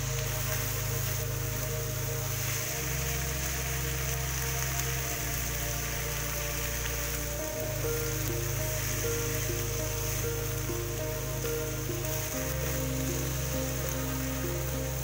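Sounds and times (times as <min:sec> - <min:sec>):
background music: 0:00.0 - 0:15.0
food sizzling in a wok: 0:00.0 - 0:15.0.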